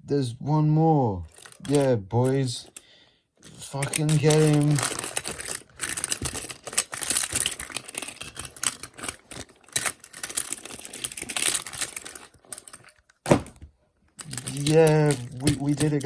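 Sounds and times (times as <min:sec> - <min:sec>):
plastic toys clicking and rattling: 0:01.3 - 0:02.8, 0:03.4 - 0:13.3, 0:14.1 - 0:16.0.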